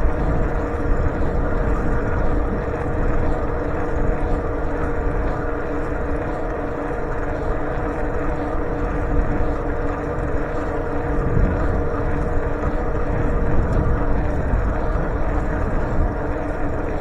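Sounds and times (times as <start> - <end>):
constant hum: 0.0 - 17.0
wind on microphone: 0.0 - 17.0.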